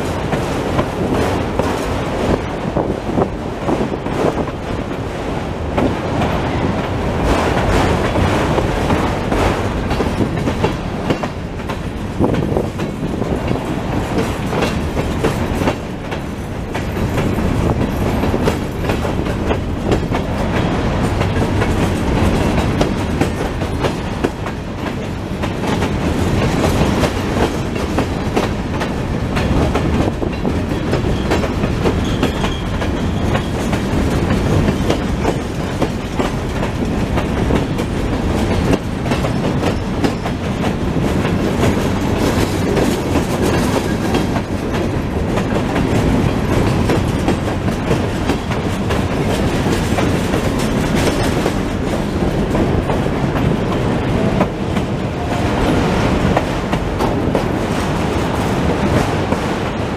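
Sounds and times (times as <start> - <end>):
rumble and rattle of train cars: 0.0 - 59.9
train wheels clicking over rail joints: 0.0 - 59.9.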